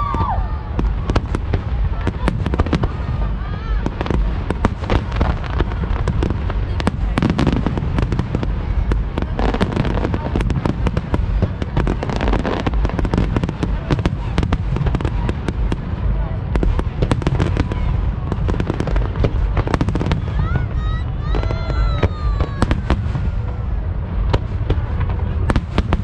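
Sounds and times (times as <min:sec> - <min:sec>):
fireworks bangs and crackles: 0:00.0 - 0:26.0
low rumble: 0:00.0 - 0:26.0.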